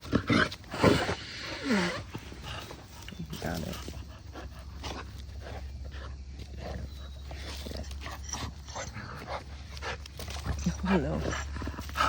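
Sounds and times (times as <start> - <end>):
dogs growling in play: 0.0 - 12.0.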